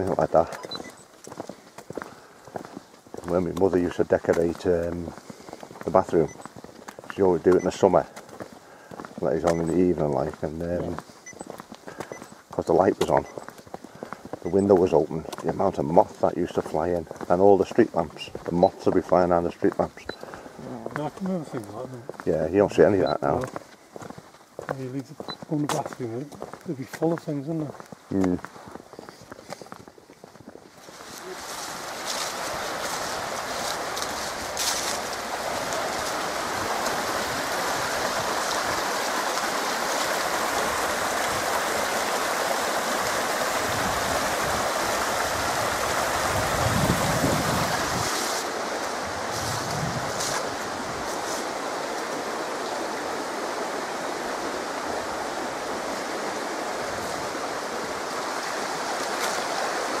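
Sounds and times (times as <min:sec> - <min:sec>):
stream rushing over stones: 0:00.0 - 0:29.9, 0:30.7 - 1:00.0.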